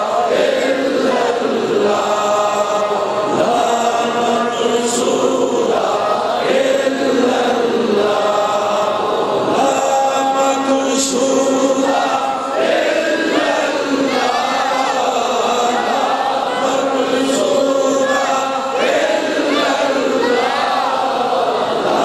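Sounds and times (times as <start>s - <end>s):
men chanting through microphone: 0.0s - 22.0s.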